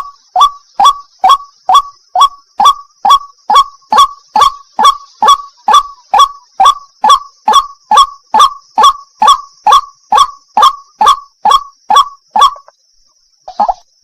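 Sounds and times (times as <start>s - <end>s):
waterhen calling: 0.0s - 12.7s, 13.5s - 13.9s.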